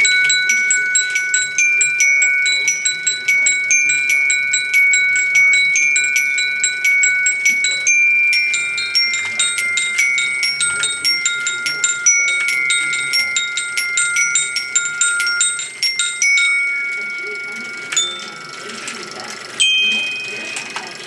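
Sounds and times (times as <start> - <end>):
glockenspiel playing a tune: 0.0 - 21.0.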